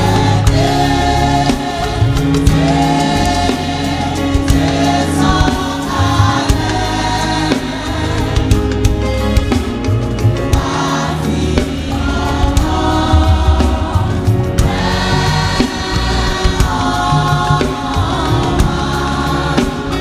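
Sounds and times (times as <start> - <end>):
band with heavy bass and drums: 0.0 - 20.0
choir singing a hymn: 0.0 - 20.0.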